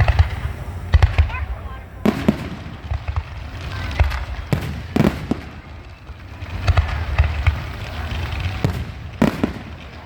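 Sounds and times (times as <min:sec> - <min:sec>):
firework bangs: 0:00.0 - 0:10.0
firework crackling: 0:00.0 - 0:10.0.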